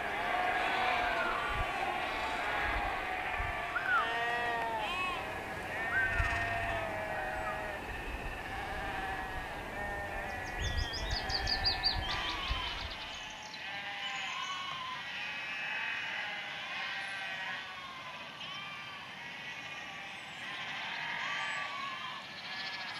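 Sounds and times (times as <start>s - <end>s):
sheep and lambs bleating: 0.0s - 22.9s.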